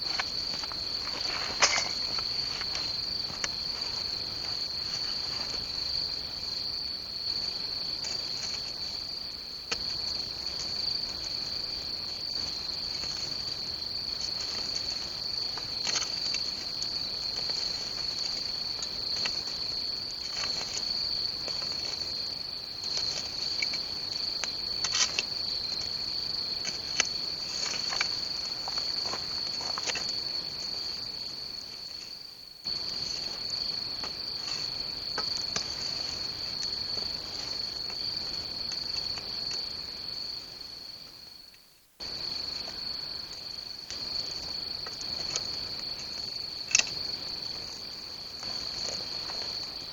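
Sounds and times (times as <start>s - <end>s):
campfire crackling: 0.0s - 32.0s, 32.6s - 41.2s, 42.0s - 49.9s
crickets chirping: 0.0s - 49.9s.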